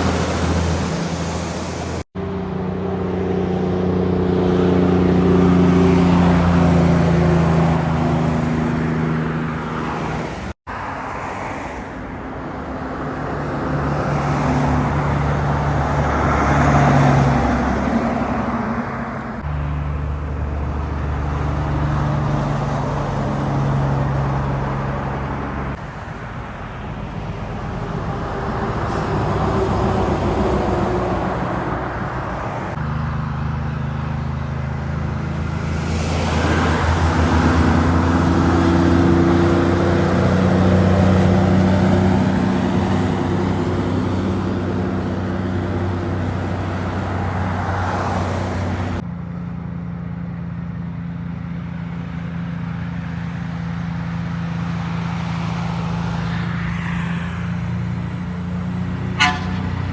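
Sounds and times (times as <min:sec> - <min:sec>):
heavy trucks driving past: 0:00.0 - 0:59.9
road and tyre noise: 0:00.0 - 0:59.9.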